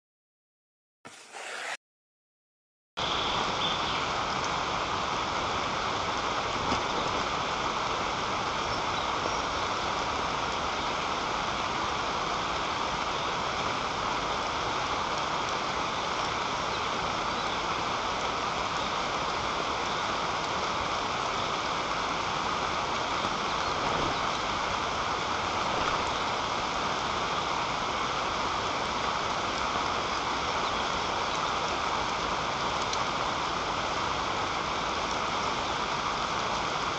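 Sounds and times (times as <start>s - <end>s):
steady rain falling: 3.3s - 36.9s.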